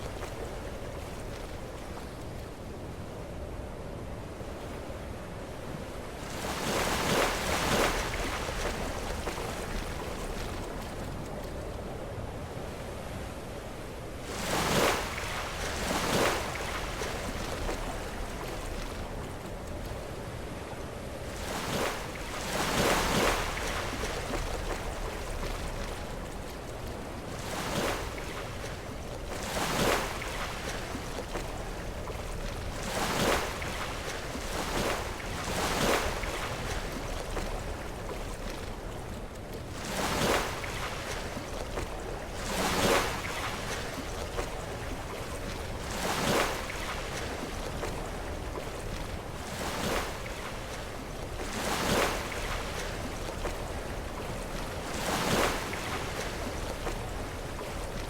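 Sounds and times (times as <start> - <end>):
surf washing: 4.4 - 58.0.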